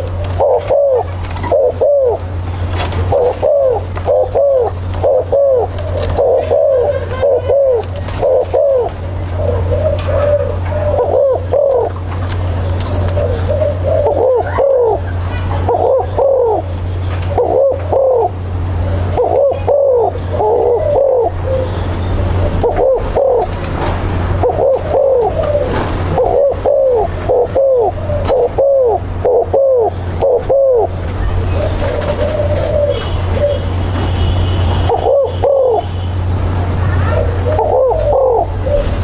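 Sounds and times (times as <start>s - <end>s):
dove cooing: 0.0s - 33.9s, 34.7s - 39.0s.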